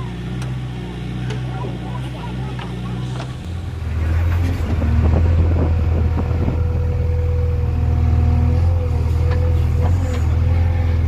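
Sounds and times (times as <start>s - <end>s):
diesel engine under load: 0.0s - 11.0s.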